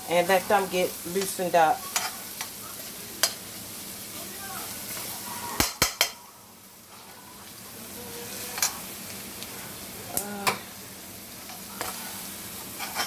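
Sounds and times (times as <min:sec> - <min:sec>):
onions sizzling in a pan: 0:00.0 - 0:13.0.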